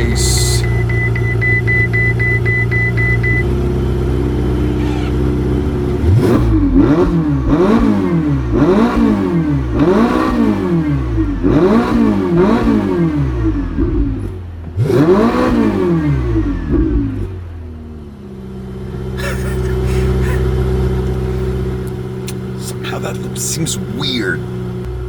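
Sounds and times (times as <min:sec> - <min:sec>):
sports car engine revving: 0:03.2 - 0:25.0.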